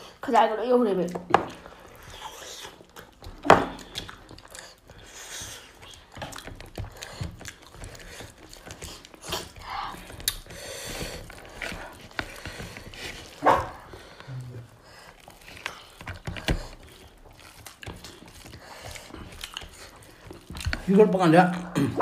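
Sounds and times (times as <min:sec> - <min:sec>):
people chewing and smacking: 0:00.0 - 0:22.0
fingers squishing food: 0:00.9 - 0:21.8.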